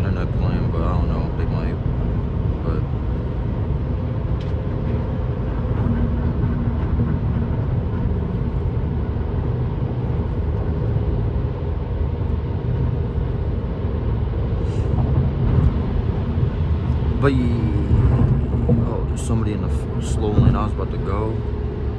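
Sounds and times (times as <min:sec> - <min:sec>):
car engine and tyre drone: 0:00.0 - 0:21.9.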